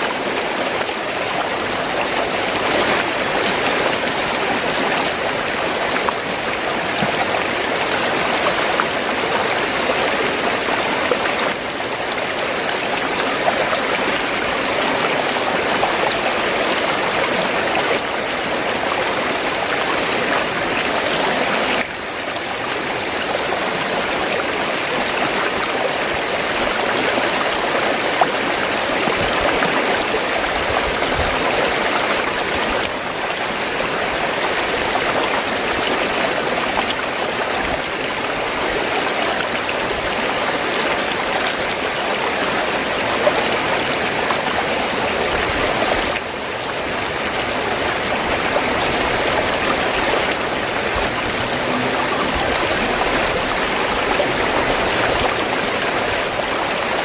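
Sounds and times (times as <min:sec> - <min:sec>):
stream water rushing and gurgling: 0:00.0 - 0:57.0.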